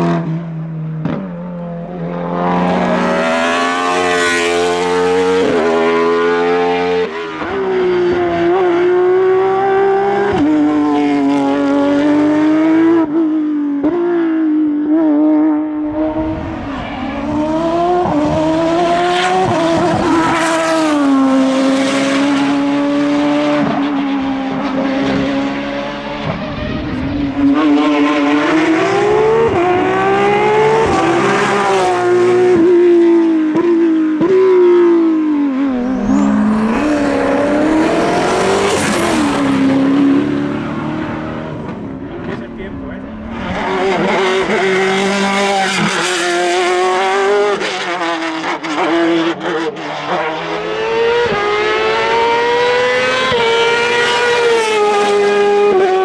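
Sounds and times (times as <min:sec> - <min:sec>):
racing car engine at high revs: 0:00.0 - 0:56.0.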